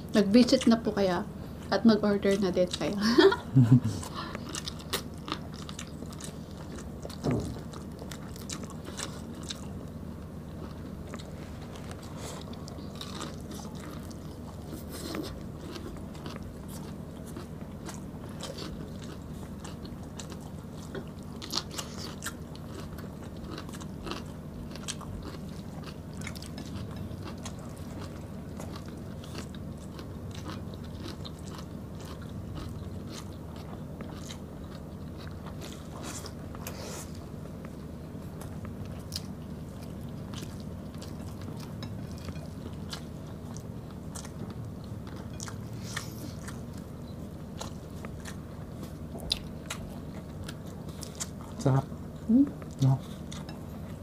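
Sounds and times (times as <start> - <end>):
steady low hum: 0.0 - 54.0
people chewing: 1.5 - 54.0.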